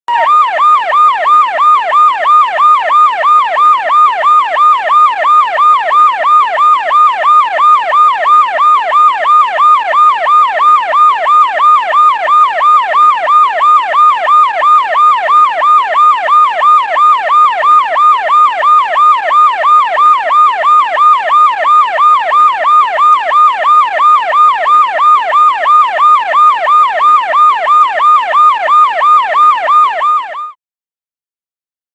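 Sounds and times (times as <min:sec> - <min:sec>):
police siren yelp: 0:00.1 - 0:30.6.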